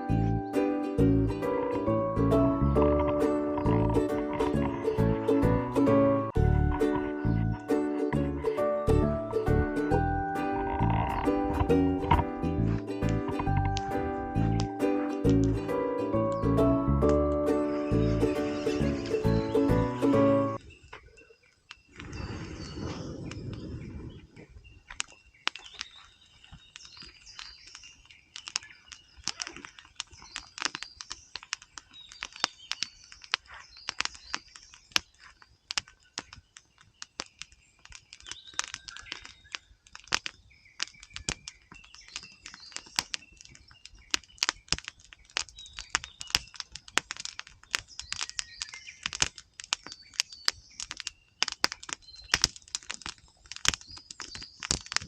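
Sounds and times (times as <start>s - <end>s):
campfire crackling and popping: 0.0s - 55.0s
small birds chirping: 0.0s - 55.0s.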